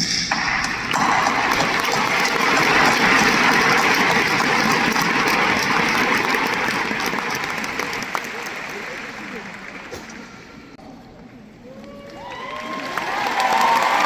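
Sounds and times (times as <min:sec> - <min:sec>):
large crowd applauding: 0:00.6 - 0:10.8, 0:12.0 - 0:14.0.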